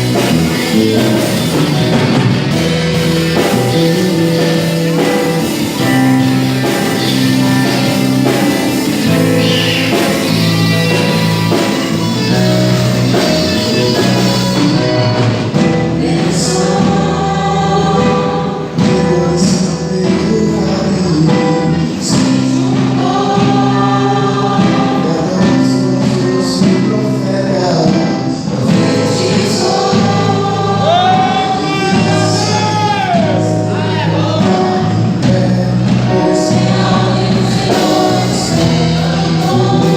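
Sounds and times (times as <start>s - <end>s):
bass line: 0.0s - 39.9s
choir singing held notes: 0.0s - 39.9s
voice singing with vibrato: 0.0s - 39.9s.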